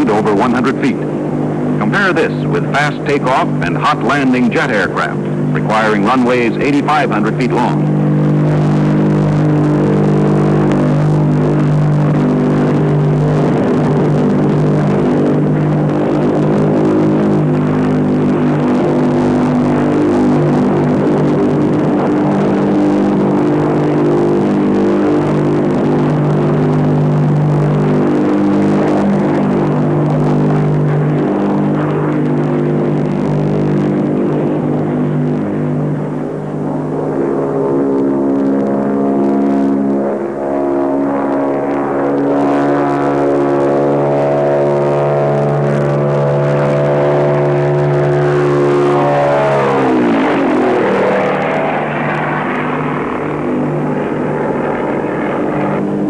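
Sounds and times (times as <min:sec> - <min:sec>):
propellers rushing noise: 0:00.0 - 0:56.0
turboprop engine droning: 0:00.0 - 0:56.0.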